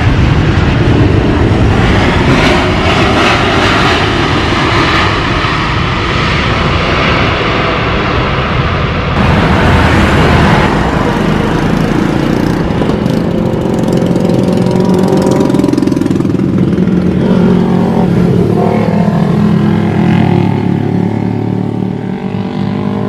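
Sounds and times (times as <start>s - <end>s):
jet airliner engine roar: 0.0s - 23.0s.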